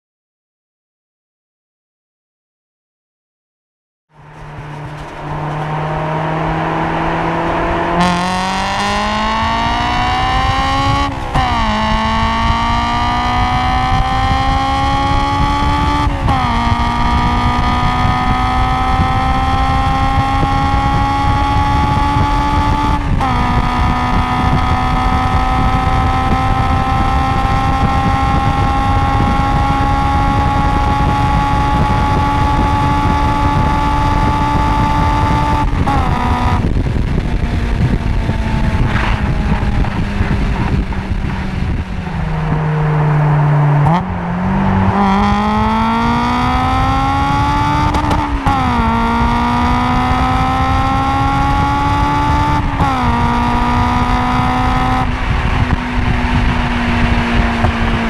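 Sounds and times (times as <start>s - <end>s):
car engine accelerating: 4.1s - 58.0s
gear upshifts: 4.2s - 58.0s.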